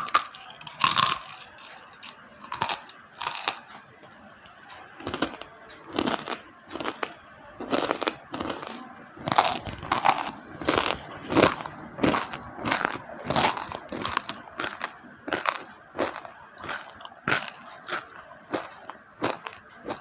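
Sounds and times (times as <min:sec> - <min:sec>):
dry sharp chewing crunches: 0:00.0 - 0:03.8, 0:04.6 - 0:20.0.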